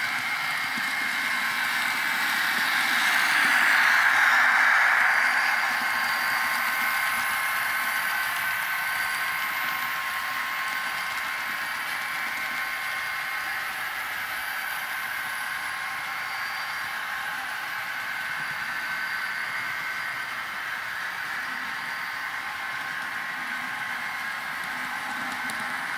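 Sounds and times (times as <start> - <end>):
model locomotive hissy hum: 0.0 - 25.9.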